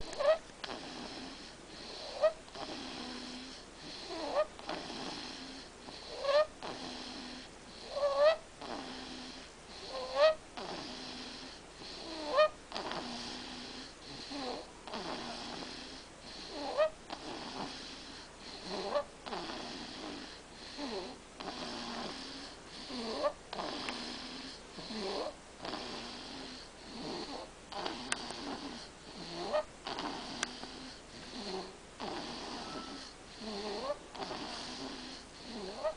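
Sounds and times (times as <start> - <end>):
wheezy whistling snoring: 0.0 - 35.9.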